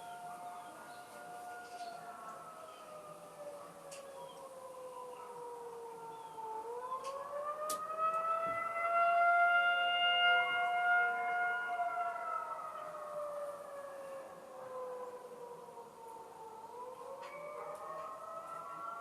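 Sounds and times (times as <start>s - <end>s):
tornado warning siren wailing: 0.0s - 19.0s.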